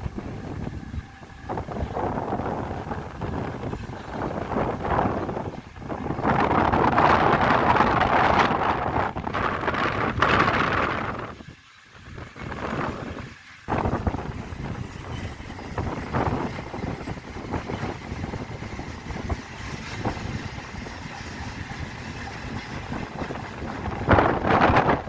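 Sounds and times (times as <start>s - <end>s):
freight train rumbling past: 0.0s - 25.0s
wind buffeting microphone: 0.0s - 25.0s.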